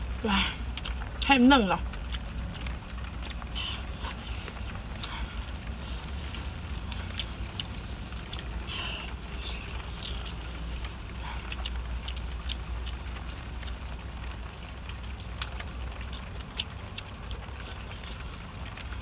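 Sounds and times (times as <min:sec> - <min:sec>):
chewing fried food: 0:00.0 - 0:19.0.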